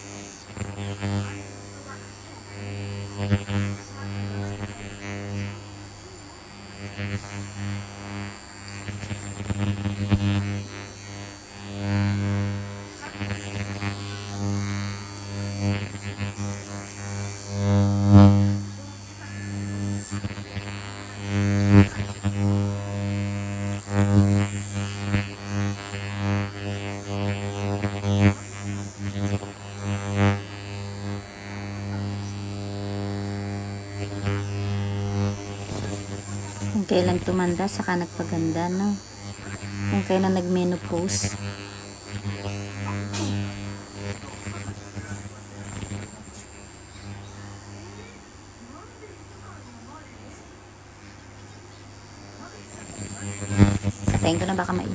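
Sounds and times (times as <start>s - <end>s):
ultrasonic skin scrubber buzzing: 0.0s - 54.9s.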